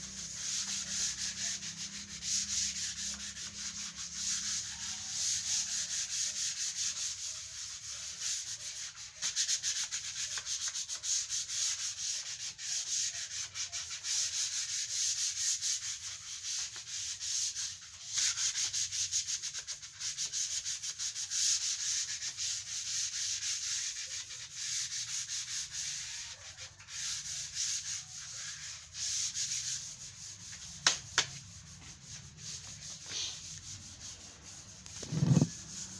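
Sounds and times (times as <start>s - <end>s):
sandpaper rubbing on wood: 0.0s - 35.9s.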